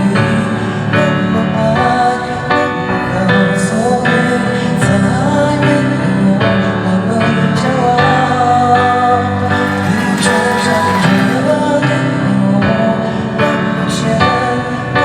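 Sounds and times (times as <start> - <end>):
instrumental accompaniment: 0.0 - 15.0
man singing: 0.0 - 15.0.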